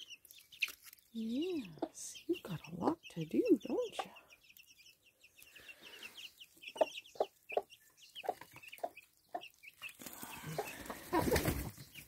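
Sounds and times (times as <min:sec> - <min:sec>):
chicks peeping: 0:00.0 - 0:12.0
hen clucking: 0:01.3 - 0:12.0.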